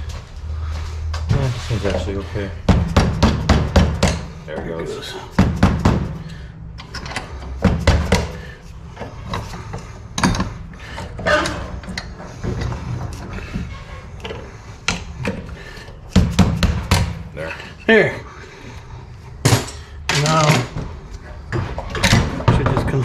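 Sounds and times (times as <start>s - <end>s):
metal clanks and knocks: 1.8s - 17.8s, 19.4s - 23.0s.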